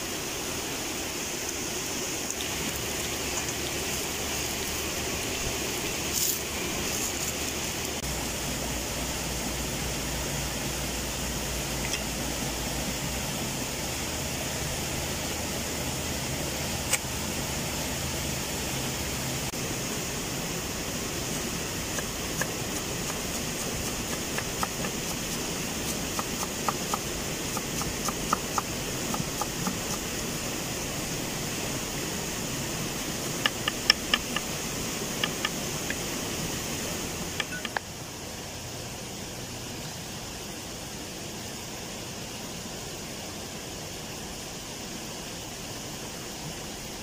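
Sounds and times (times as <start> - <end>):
background hiss: 0.0 - 47.0.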